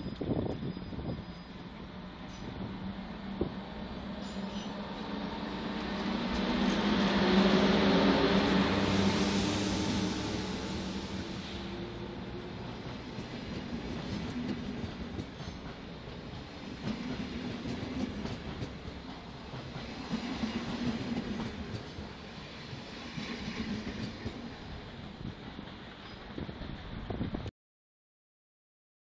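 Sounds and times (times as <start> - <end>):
train wheels clattering on rails: 3.3 - 27.4.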